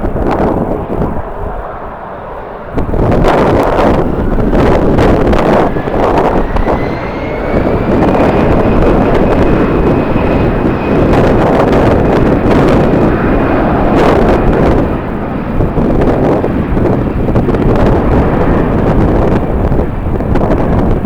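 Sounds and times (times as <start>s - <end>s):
jet engines whining: 0.0s - 21.0s
wind buffeting microphone: 0.0s - 21.0s.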